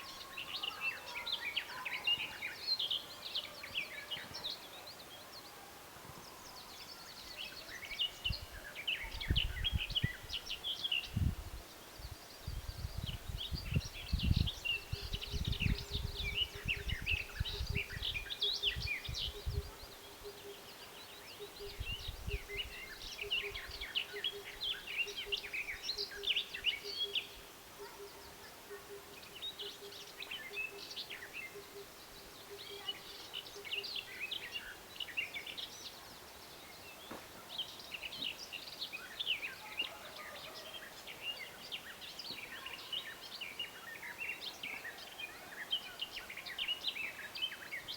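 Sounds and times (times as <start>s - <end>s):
songbird chirping: 0.0s - 47.9s.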